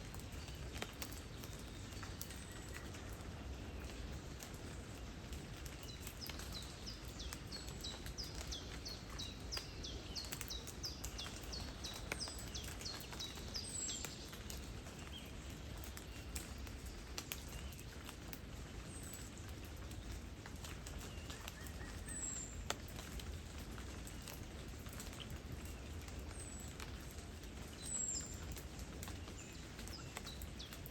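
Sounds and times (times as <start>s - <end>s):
steady rain: 0.0s - 30.9s.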